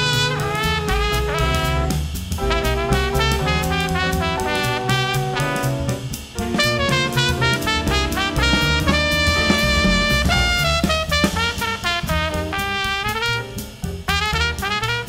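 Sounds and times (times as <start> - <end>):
swing band playing jazz: 0.0 - 15.0.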